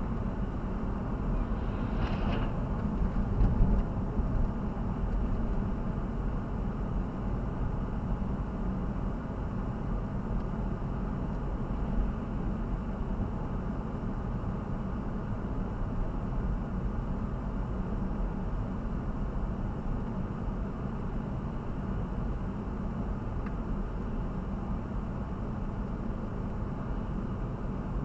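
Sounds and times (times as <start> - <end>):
vehicle rumbling in motion: 0.0 - 28.0.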